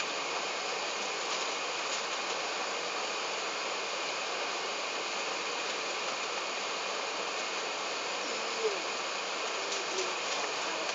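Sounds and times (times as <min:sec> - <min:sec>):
cabin air and engine hiss: 0:00.0 - 0:10.9
faint high whine: 0:00.0 - 0:10.9.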